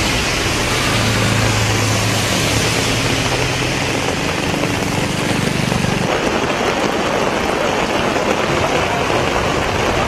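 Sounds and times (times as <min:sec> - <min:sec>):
heavy rain pouring: 0:00.0 - 0:10.0
vehicle engine humming: 0:00.0 - 0:10.0.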